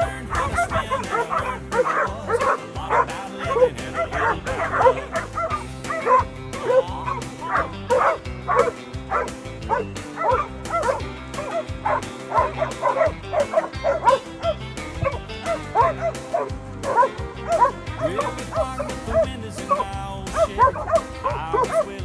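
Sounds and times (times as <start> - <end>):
country music: 0.0 - 22.0
dogs yipping and barking: 0.0 - 22.0.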